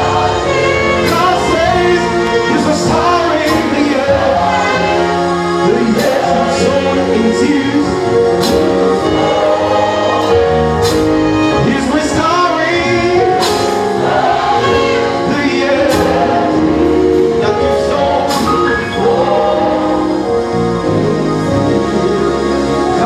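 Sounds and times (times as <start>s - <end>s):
instrumental backing: 0.0s - 23.0s
man singing into microphone: 0.6s - 10.5s, 11.4s - 13.7s, 14.6s - 23.0s.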